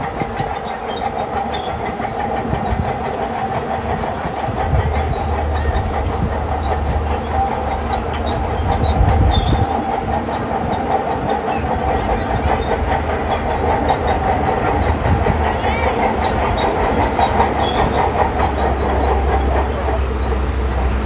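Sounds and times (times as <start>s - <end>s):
steel tracks clanking: 0.0s - 21.0s
bulldozer diesel engine running: 0.1s - 21.0s.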